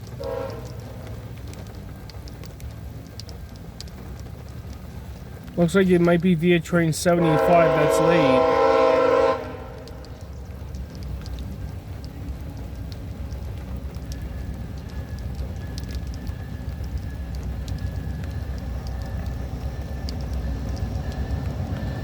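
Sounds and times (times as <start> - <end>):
drops ticking close by: 0.0 - 22.0
heavy rain falling: 0.0 - 22.0
passenger train rumble: 0.0 - 22.0.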